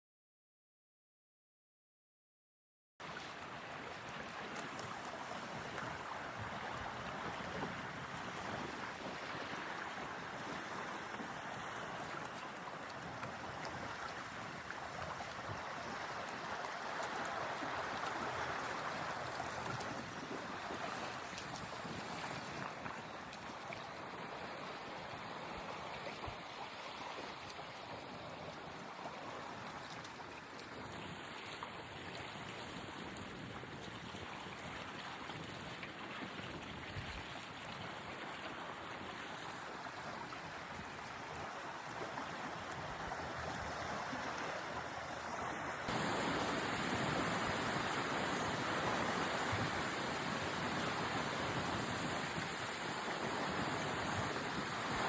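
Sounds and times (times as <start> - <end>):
fast-moving water: 3.0 - 55.0
light breeze: 3.0 - 55.0
waves lapping on shore: 3.0 - 55.0.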